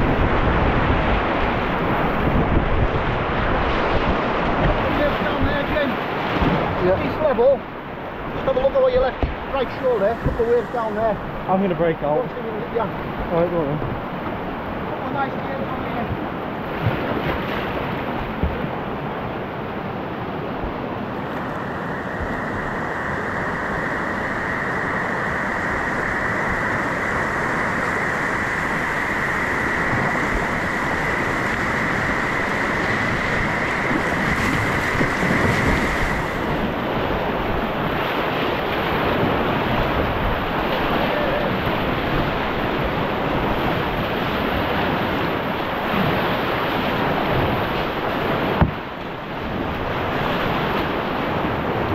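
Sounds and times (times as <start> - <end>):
river rapids rushing: 0.0 - 51.9.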